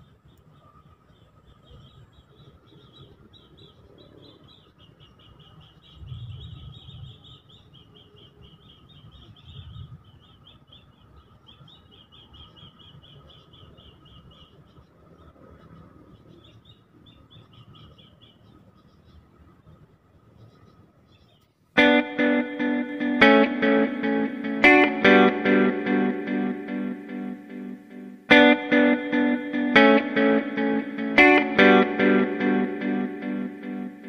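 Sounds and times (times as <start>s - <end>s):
birds chirping in rapid trills: 0.0s - 19.4s, 20.3s - 34.0s.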